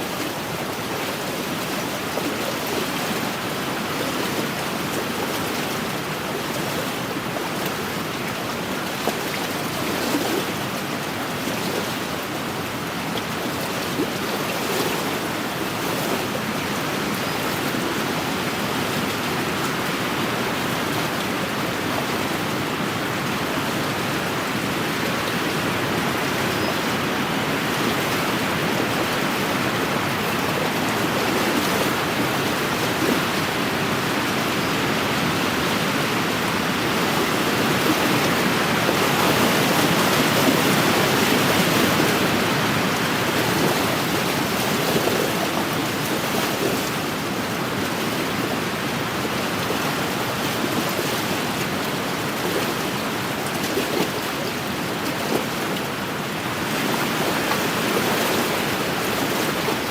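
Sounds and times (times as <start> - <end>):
lake waves washing on shore: 0.0 - 59.9.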